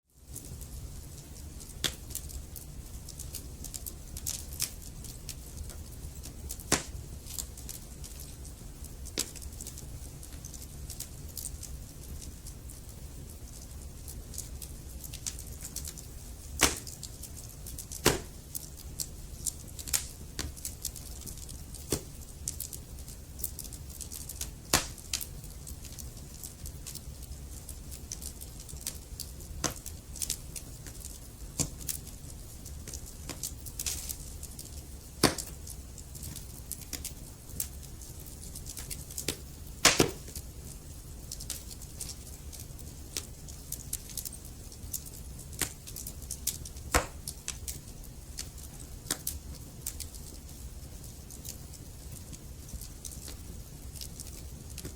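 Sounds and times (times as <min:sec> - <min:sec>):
fire crackling and popping: 0:00.2 - 0:54.9
low fire rumble: 0:00.2 - 0:54.9.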